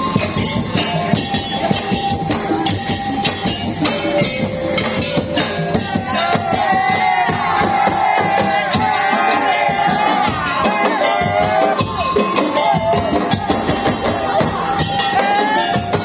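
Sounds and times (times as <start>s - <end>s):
slit drums and drums beating: 0.0s - 16.0s.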